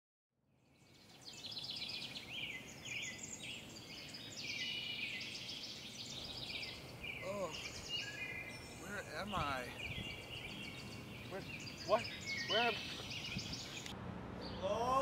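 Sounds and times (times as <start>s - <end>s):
birds chirping and singing: 0.6s - 15.0s.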